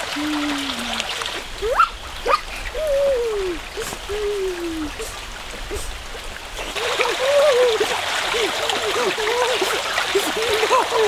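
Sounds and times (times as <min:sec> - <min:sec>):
stream running: 0:00.0 - 0:11.0.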